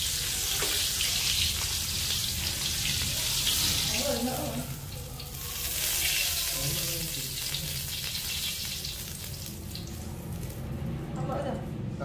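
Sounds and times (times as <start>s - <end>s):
frog frying in oil: 0.0s - 11.1s.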